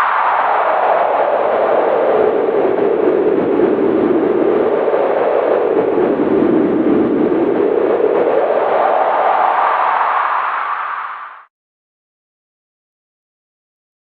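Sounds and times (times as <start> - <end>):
howling wind: 0.0 - 11.5.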